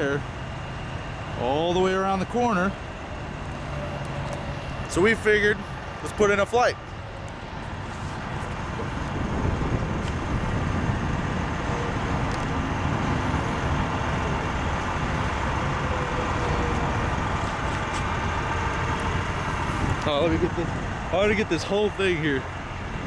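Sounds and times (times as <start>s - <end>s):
trucks idling low rumble: 0.0s - 23.0s.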